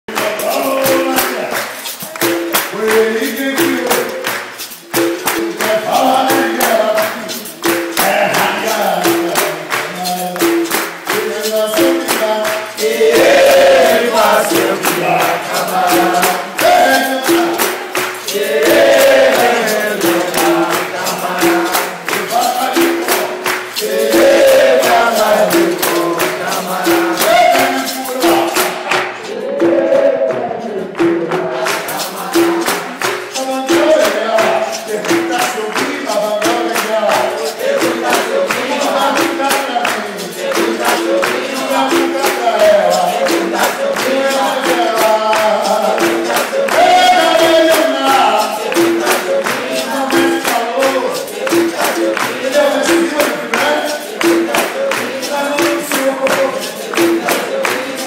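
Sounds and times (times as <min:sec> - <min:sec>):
berimbaus struck in rhythm: 0:00.1 - 0:58.0
group singing in chorus: 0:00.1 - 0:58.0
man singing lead: 0:00.1 - 0:58.0.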